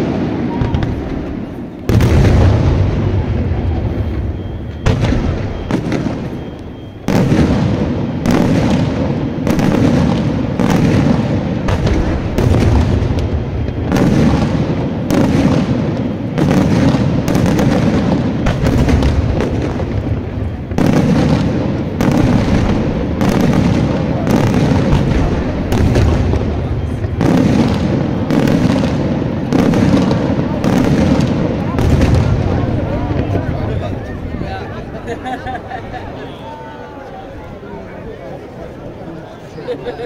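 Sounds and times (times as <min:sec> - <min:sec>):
fireworks bangs: 0:00.0 - 0:39.6
fireworks crackling and rumbling: 0:00.0 - 0:40.0.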